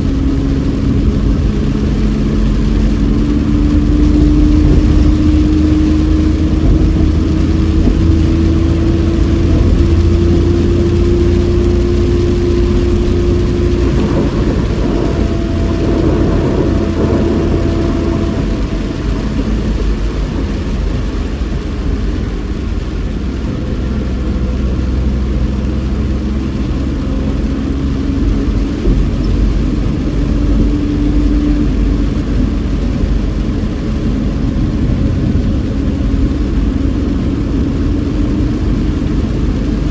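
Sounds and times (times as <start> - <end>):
car engine drone: 0.0 - 39.9
road noise inside car: 0.0 - 39.9.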